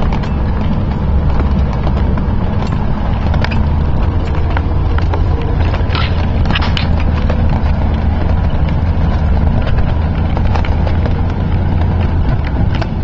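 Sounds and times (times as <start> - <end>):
low engine drone: 0.0 - 13.0
vehicle body rattling: 0.0 - 13.0.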